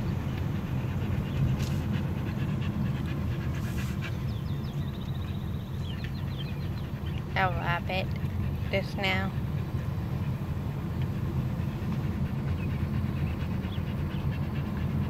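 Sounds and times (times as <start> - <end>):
car rumbling on paved road: 0.0 - 15.0
dog panting: 0.0 - 15.0.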